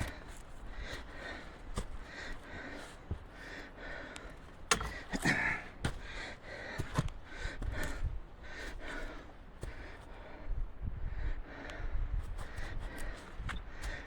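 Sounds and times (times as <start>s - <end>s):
footsteps on rocky trail: 0.0s - 10.4s, 12.2s - 14.0s
person breathing hard: 0.0s - 14.0s.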